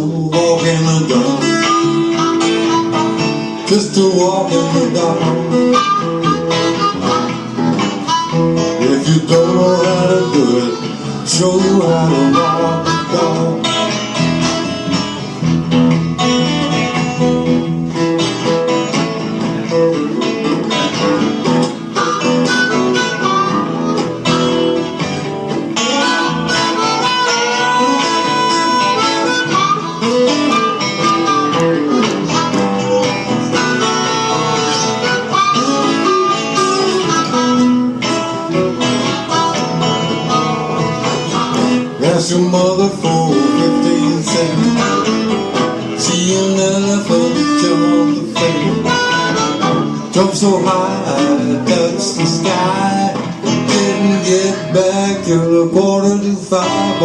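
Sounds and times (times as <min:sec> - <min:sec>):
bass guitar: 0:00.0 - 0:57.0
guitars: 0:00.0 - 0:57.0
harmonica lines: 0:00.0 - 0:57.0.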